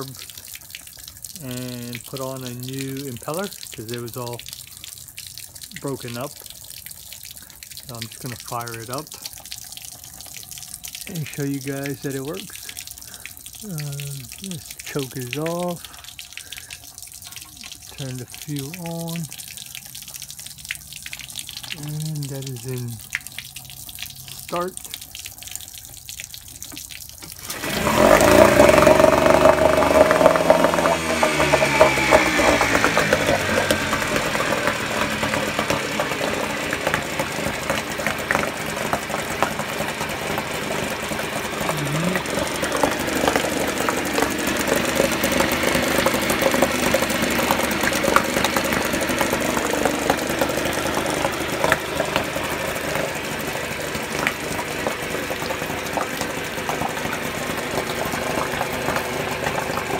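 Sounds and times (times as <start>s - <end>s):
outboard engine pull-started and idling: 0.0s - 59.9s.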